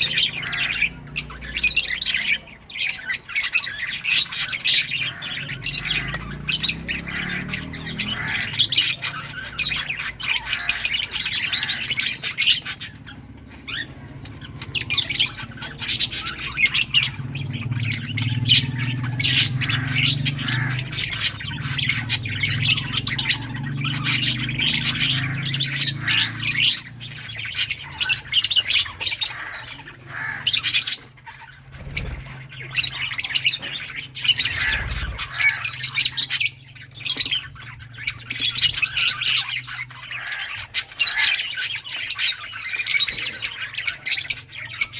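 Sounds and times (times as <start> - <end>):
lovebirds chirping and squawking: 0.0 - 44.9.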